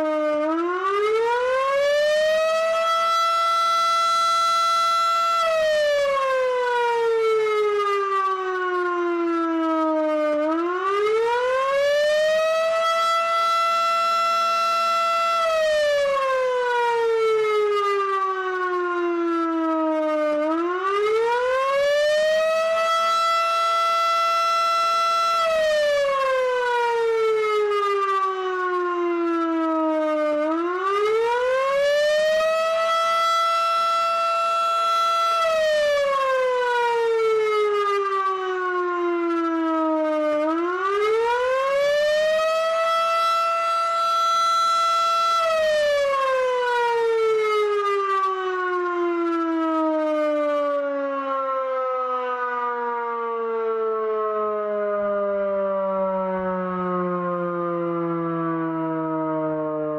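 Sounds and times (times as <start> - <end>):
fire siren wailing: 0.0 - 59.9.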